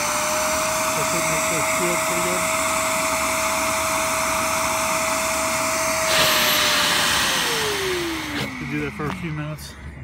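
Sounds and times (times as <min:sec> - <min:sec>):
shop vacuum motor whine: 0:00.0 - 0:10.0.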